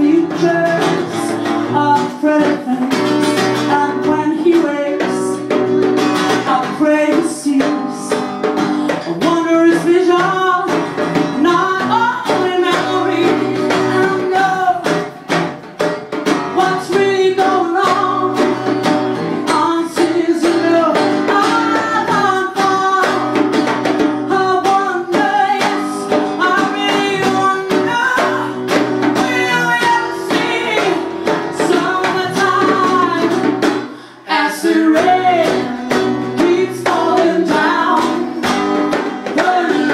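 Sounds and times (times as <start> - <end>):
woman singing: 0.0 - 15.3, 16.3 - 39.9
strummed acoustic guitar: 0.0 - 39.9
djembe hand drums: 2.4 - 34.0, 34.6 - 39.9.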